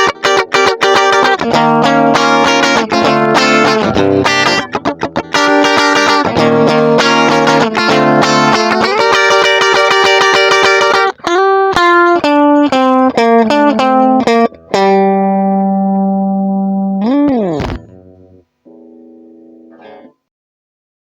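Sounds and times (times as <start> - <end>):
overdriven electric guitar: 0.0 - 20.2.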